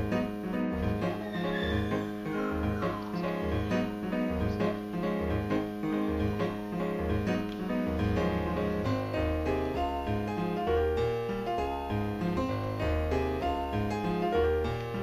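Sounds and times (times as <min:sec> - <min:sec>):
keyboard melody: 0:00.0 - 0:15.0.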